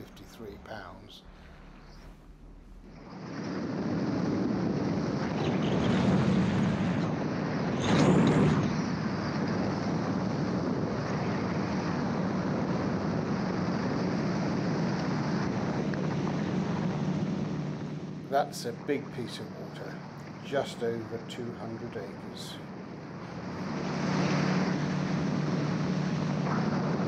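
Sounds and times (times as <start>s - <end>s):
aircraft engine and propeller drone: 0.0s - 27.0s
wind rush: 0.0s - 27.0s.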